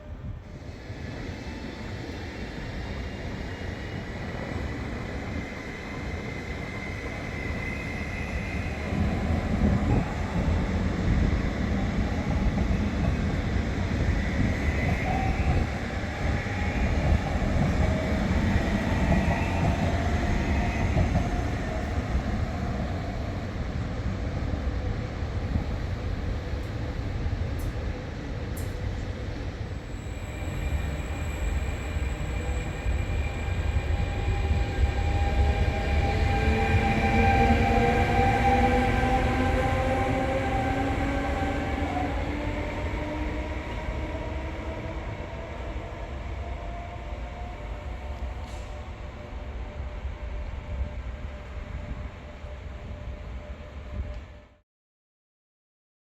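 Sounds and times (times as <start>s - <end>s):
train wheels rumbling on rails: 0.1s - 54.4s.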